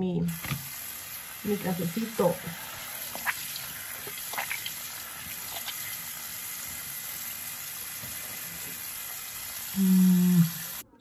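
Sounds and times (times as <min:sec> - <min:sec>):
tap water running into sink: 0:00.3 - 0:09.8.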